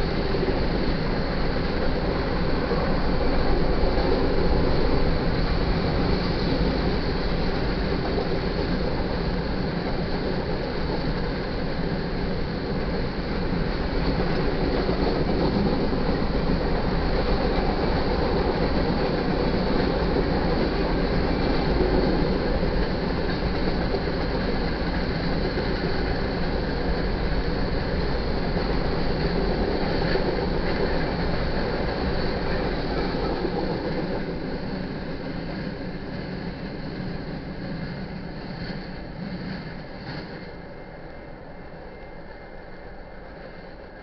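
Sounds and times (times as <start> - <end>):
freight train wheels rumbling on rail: 0.0 - 44.0.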